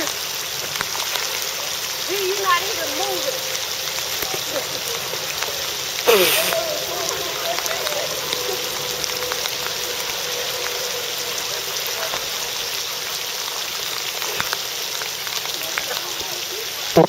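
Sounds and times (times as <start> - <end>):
floodwater hissing: 0.0 - 17.0.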